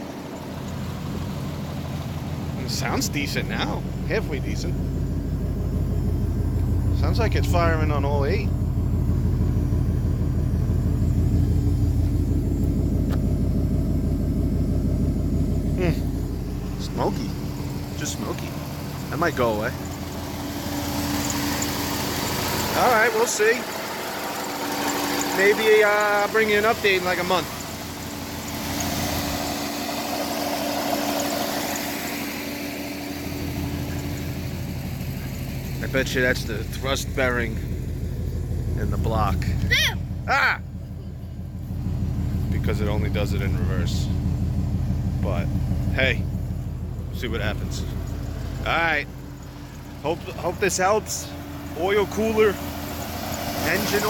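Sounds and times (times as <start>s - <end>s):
constant whine: 0.0s - 54.0s
truck engine idling: 0.0s - 54.0s.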